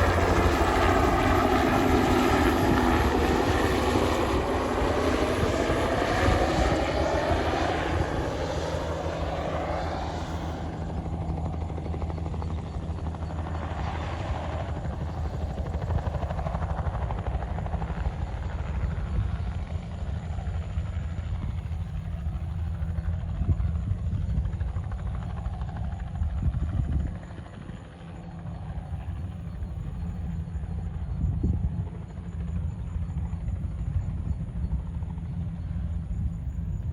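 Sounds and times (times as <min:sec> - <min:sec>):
helicopter rotor beating: 0:00.0 - 0:36.9.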